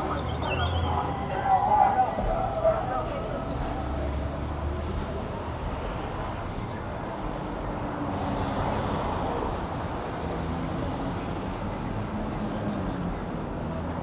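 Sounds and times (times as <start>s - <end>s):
indistinct voices of passers-by: 0.0s - 14.0s
steady traffic noise: 0.0s - 14.0s.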